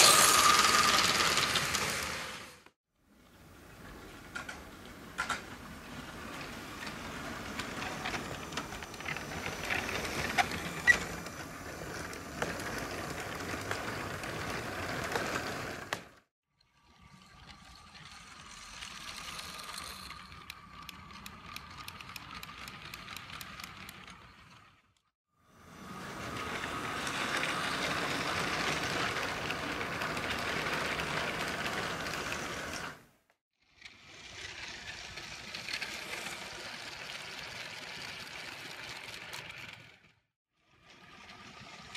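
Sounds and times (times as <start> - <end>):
plastic wheels clattering over track: 0.0 - 2.6, 4.2 - 16.2, 17.4 - 24.8, 25.8 - 33.1, 33.8 - 40.2
toy train motors whirring: 0.0 - 2.7, 5.9 - 16.0, 16.7 - 24.9, 25.7 - 33.0, 33.7 - 40.2.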